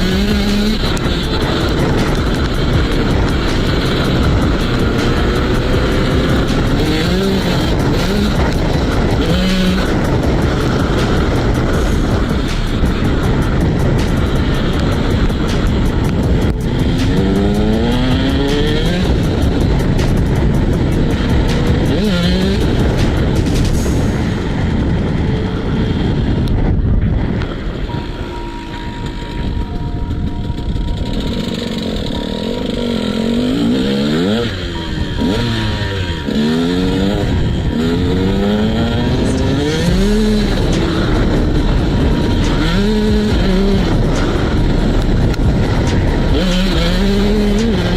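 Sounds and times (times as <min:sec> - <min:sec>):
motocross engine revving: 0:00.0 - 0:26.5, 0:27.4 - 0:47.9.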